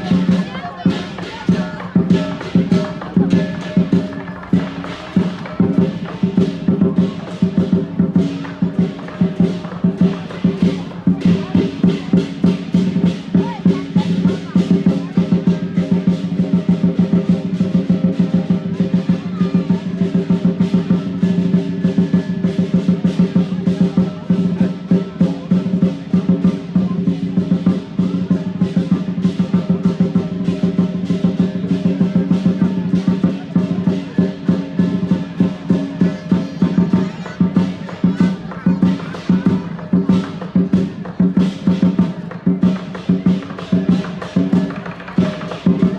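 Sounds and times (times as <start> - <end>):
drum and cymbals beat: 0.0 - 45.9.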